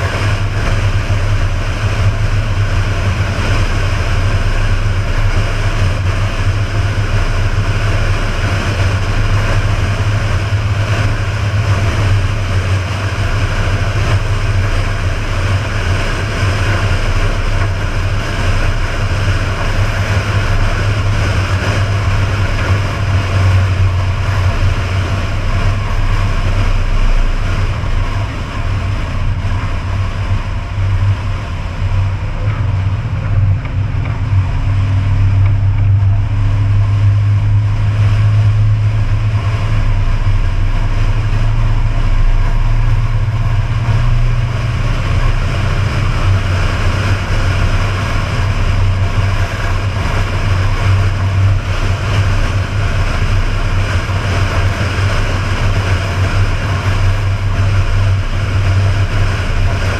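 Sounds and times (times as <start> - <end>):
truck engine rumble: 0.0 - 59.9
wind and road noise: 0.0 - 59.9.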